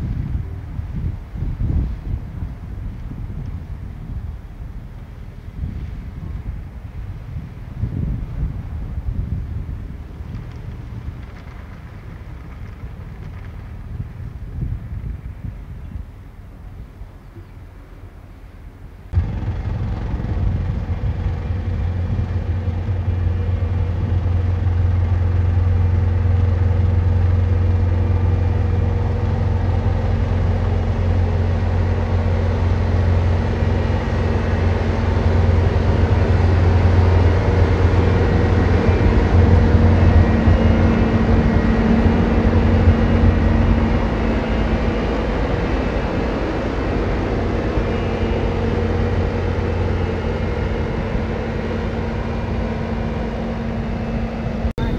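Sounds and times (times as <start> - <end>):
tractor engine running under load: 0.0 - 16.0, 19.1 - 54.9.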